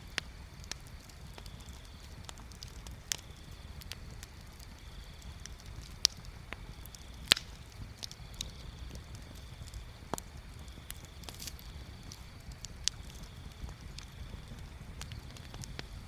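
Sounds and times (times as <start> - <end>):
bonfire crackling and popping: 0.0 - 16.0
low steady rumble: 0.0 - 16.0.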